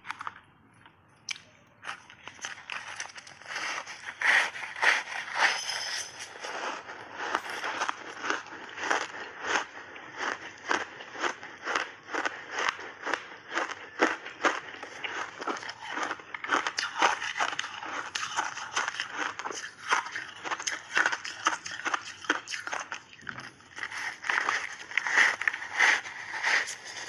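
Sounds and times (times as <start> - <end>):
ice bars being chewed: 0.0 - 27.0.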